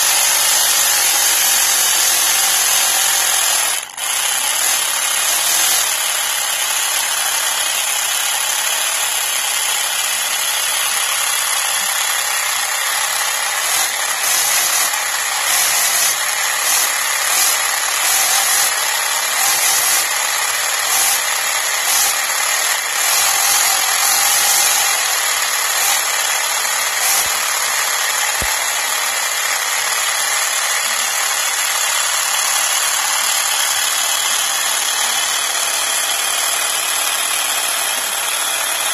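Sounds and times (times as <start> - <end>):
model engine whirring clatter: 0.0 - 38.9.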